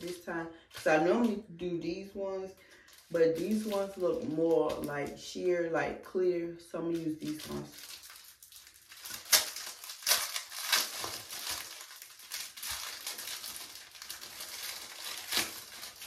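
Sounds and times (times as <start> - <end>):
plastic packaging crinkling: 0.0 - 5.5, 6.9 - 16.0.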